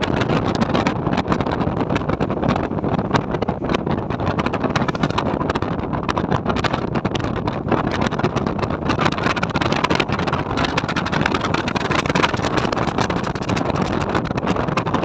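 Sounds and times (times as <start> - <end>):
dense crackle: 0.0 - 15.0
moving vehicle noise: 0.0 - 15.0.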